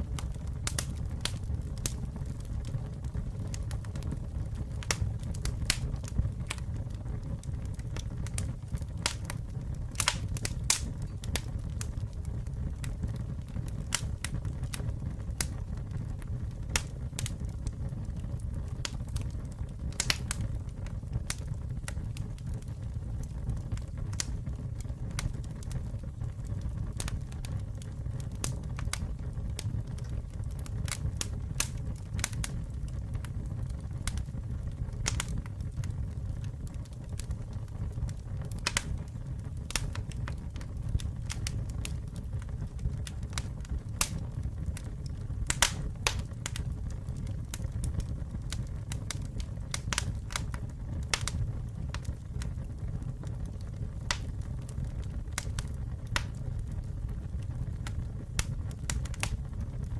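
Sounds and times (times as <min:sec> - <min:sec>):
low rumble of flames: 0:00.0 - 0:59.9
wood crackling and popping: 0:00.0 - 0:59.9.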